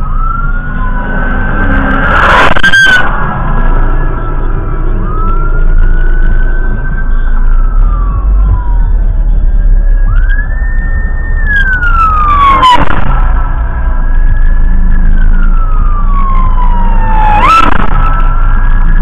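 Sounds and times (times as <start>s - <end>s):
police siren wailing: 0.0s - 19.0s
road and engine rumble: 0.0s - 19.0s.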